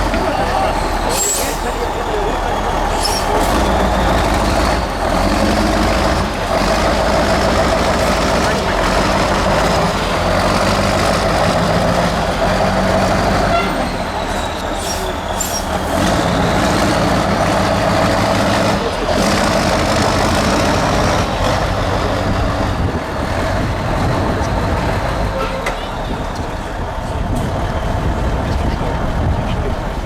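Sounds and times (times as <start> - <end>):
diesel truck engine revving: 0.0 - 30.0.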